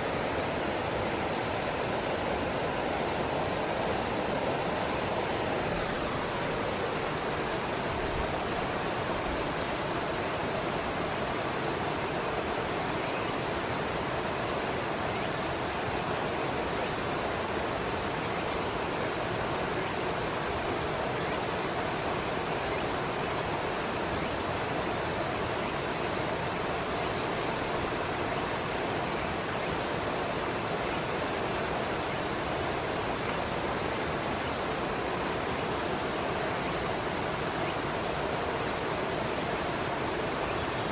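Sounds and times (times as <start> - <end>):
high-pitched insect chorus: 0.0 - 40.9
steady background hiss: 0.0 - 40.9.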